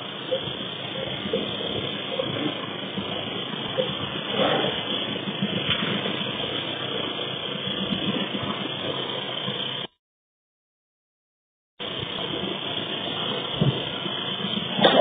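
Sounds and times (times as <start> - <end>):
car engine rumble: 0.0 - 9.9, 11.8 - 15.0.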